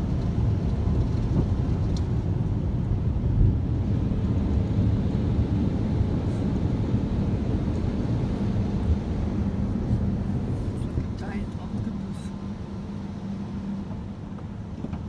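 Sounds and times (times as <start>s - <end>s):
car wash machinery rumble: 0.0s - 15.0s.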